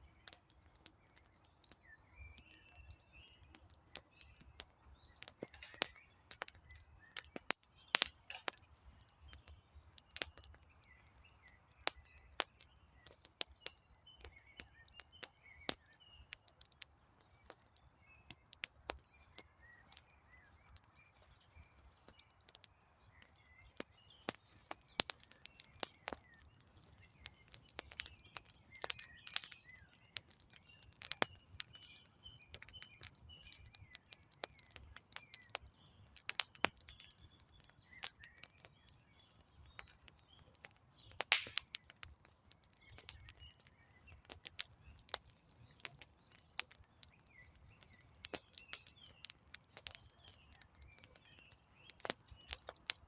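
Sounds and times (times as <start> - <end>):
campfire crackling: 0.0 - 53.0
small birds singing: 0.0 - 53.0.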